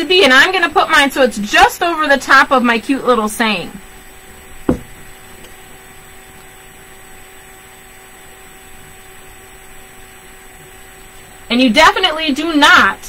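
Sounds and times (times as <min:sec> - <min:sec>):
room tone hum and hiss: 0:00.0 - 0:13.0.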